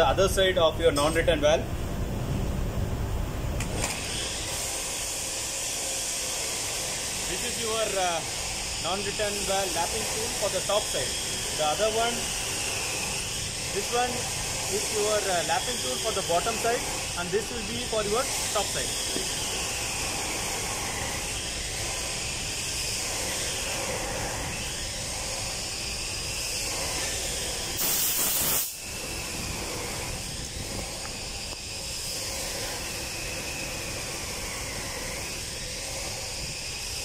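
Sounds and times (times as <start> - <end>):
burst of hiss: 3.8 - 37.0.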